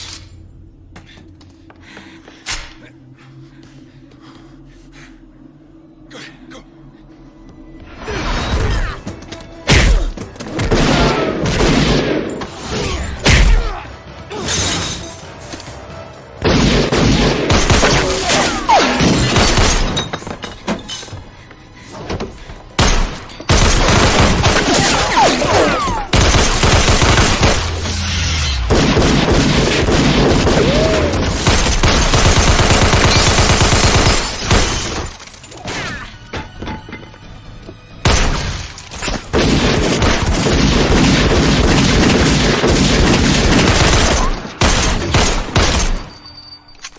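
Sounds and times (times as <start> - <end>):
action movie music: 0.0 - 46.4.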